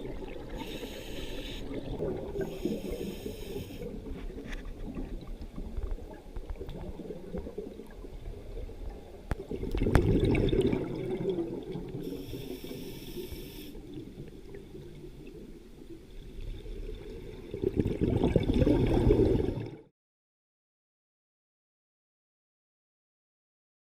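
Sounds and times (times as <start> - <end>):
water sloshing and gurgling: 0.0 - 19.9.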